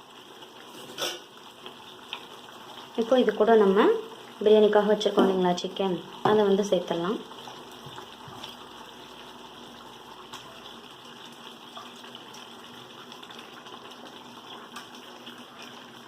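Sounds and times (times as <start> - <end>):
food hissing and bubbling: 0.0 - 16.0.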